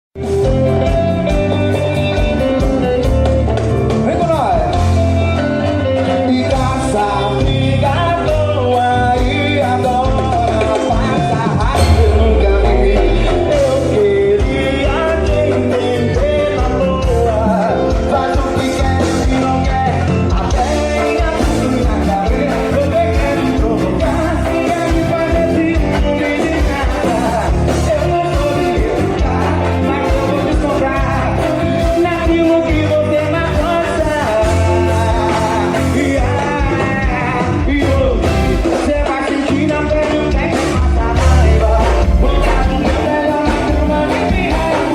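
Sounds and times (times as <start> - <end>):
band playing up-tempo song: 0.2 - 44.9
drums steady beat: 0.2 - 44.9
person singing: 5.4 - 44.9.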